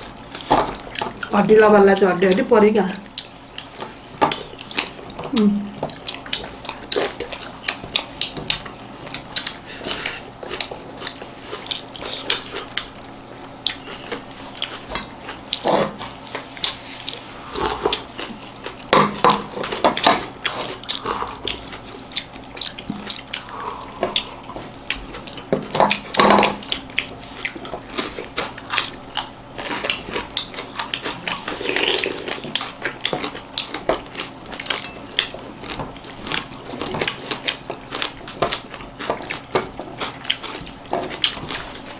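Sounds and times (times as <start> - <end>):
people chewing: 0.0 - 1.4, 2.0 - 41.9.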